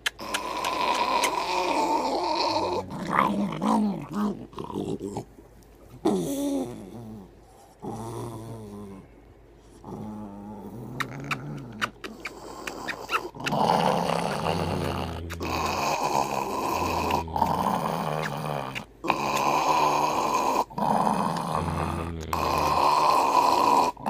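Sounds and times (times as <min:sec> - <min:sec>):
dog growling and grumbling: 0:00.1 - 0:09.1, 0:09.8 - 0:24.0.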